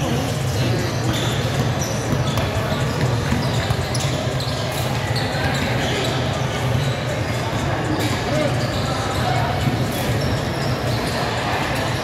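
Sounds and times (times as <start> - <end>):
voices: 0.0 - 12.0.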